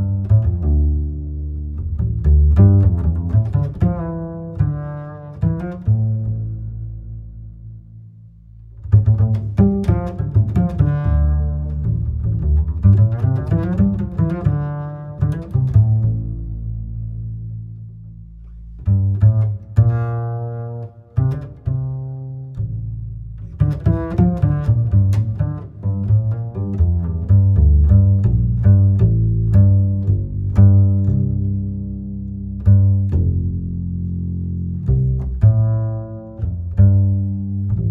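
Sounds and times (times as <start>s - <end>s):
cello and double bass music: 0.0s - 37.9s.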